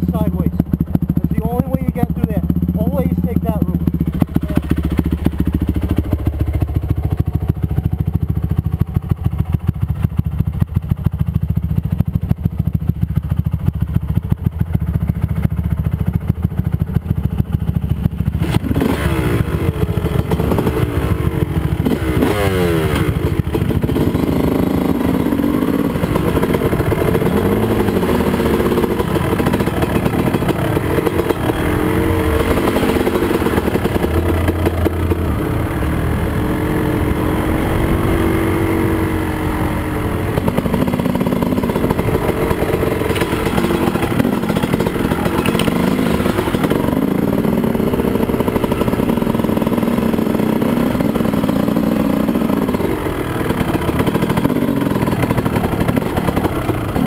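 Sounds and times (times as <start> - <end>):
dirt bike engine idling and revving: 0.0 - 57.0.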